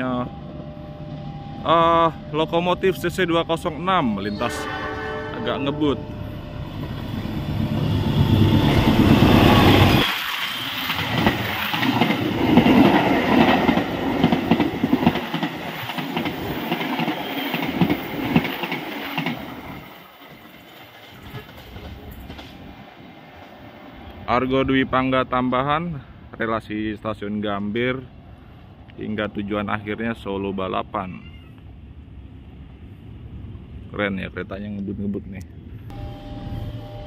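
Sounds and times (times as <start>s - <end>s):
diesel locomotive engine: 0.0s - 30.9s, 35.4s - 37.0s.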